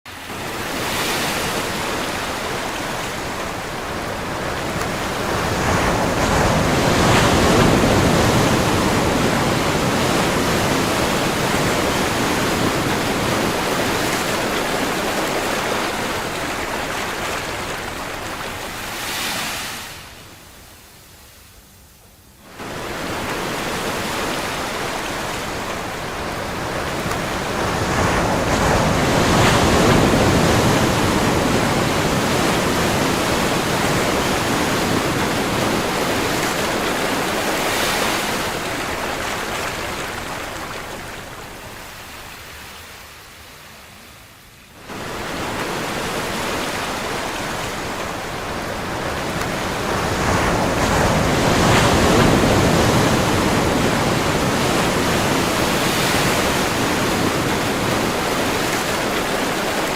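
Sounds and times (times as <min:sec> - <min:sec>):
ocean waves breaking: 0:00.1 - 0:21.3, 0:22.4 - 0:59.9.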